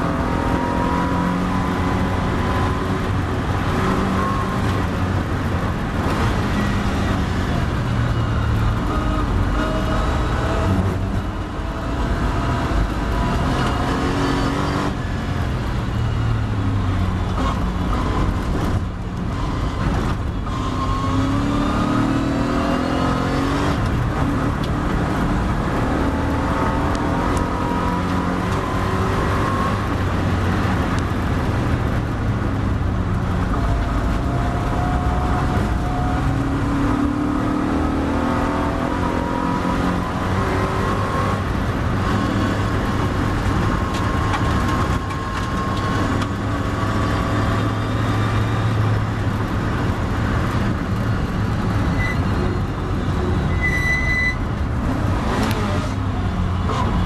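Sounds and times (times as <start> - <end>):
race car engine revving: 0.0 - 15.2, 17.2 - 32.2, 32.8 - 53.6
wind and road noise: 0.0 - 57.0.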